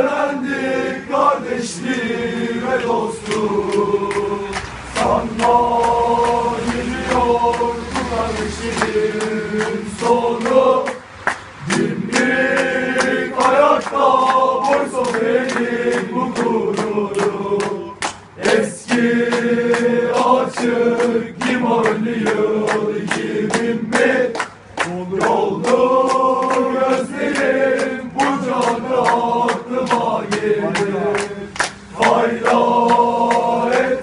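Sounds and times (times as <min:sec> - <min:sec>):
male voices chanting in unison: 0:00.0 - 0:34.0.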